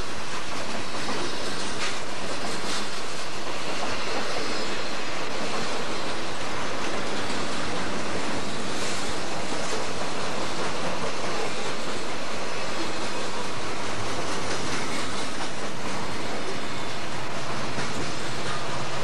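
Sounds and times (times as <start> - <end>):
steel wheels roaring on rail: 0.0 - 19.0.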